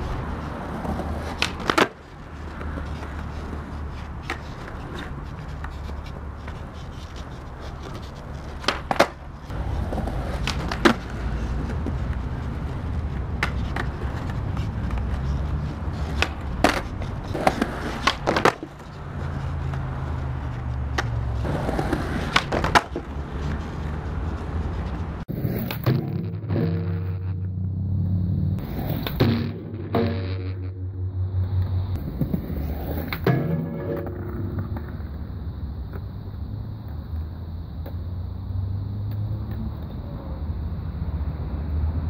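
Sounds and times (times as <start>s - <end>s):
skateboard popping and landing: 0.0s - 27.6s, 28.5s - 30.9s, 31.5s - 36.2s
skateboard wheels rolling on concrete: 0.0s - 42.0s.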